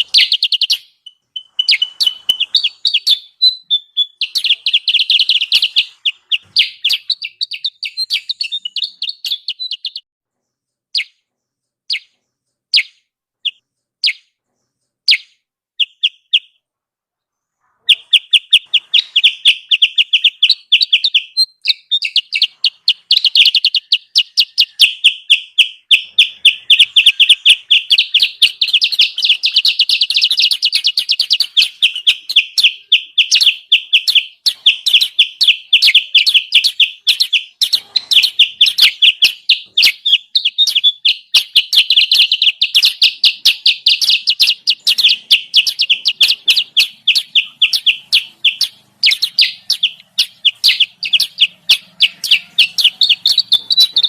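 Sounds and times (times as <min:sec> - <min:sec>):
high-pitched bird chattering chirps: 0:00.0 - 0:10.0, 0:10.9 - 0:11.2, 0:11.9 - 0:14.4, 0:15.1 - 0:16.6, 0:17.5 - 0:54.0.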